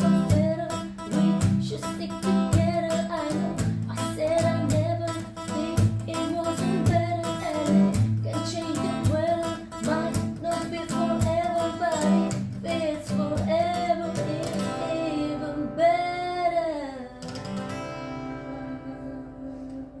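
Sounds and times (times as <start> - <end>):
acoustic guitar: 0.0 - 20.0
person singing: 0.0 - 20.0.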